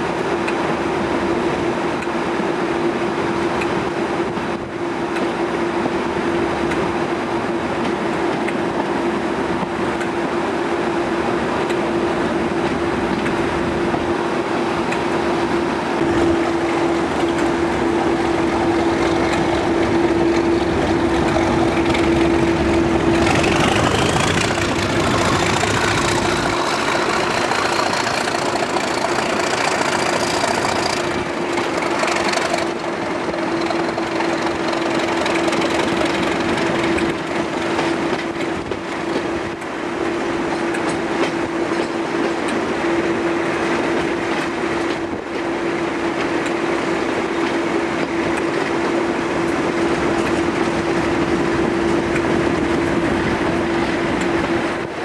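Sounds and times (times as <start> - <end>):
diesel locomotive engine working hard: 0.0 - 55.0.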